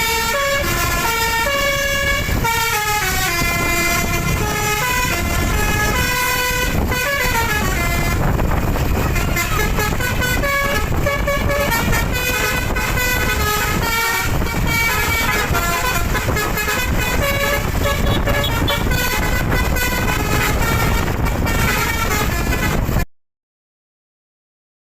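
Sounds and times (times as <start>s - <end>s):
bus engine running: 0.0s - 23.0s
multi-tone musical air horn: 0.0s - 23.0s.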